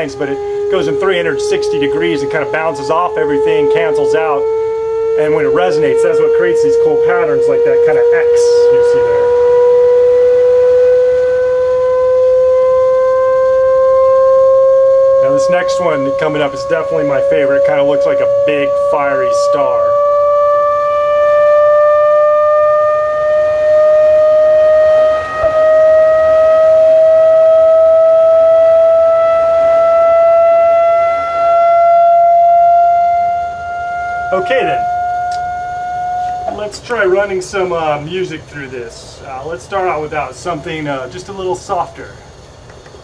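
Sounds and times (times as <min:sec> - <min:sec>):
rising sine-wave test tone: 0:00.0 - 0:42.3.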